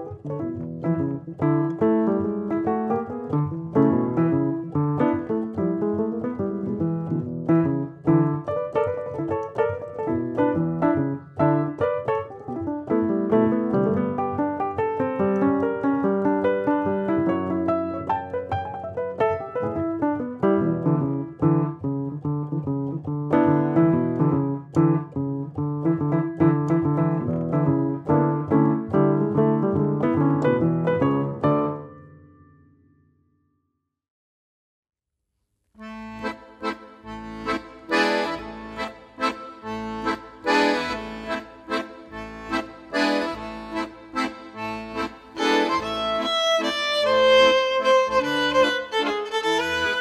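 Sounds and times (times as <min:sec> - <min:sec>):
piano music: 0:00.0 - 0:33.2, 0:35.9 - 0:50.0.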